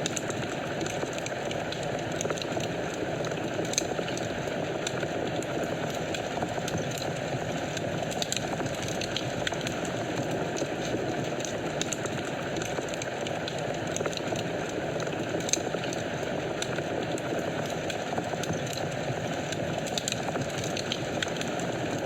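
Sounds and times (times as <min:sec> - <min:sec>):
fire crackles and pops: 0:00.0 - 0:22.0.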